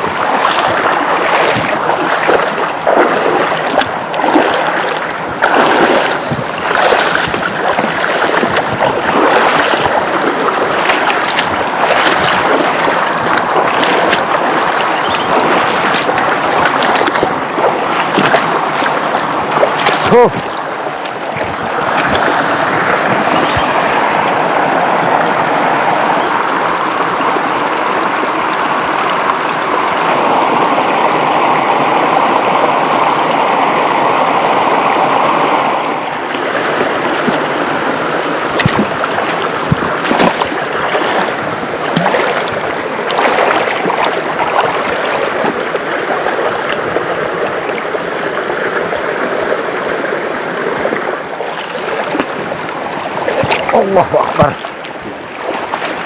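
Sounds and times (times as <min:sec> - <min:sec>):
rushing river water: 0:00.0 - 0:56.0
small water splashes: 0:00.0 - 0:56.0.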